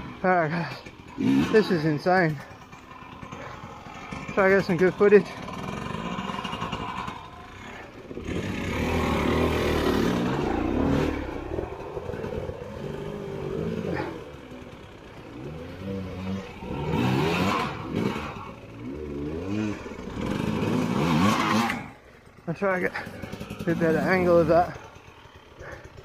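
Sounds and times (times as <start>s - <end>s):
motorbike engine revving: 0.0s - 26.0s.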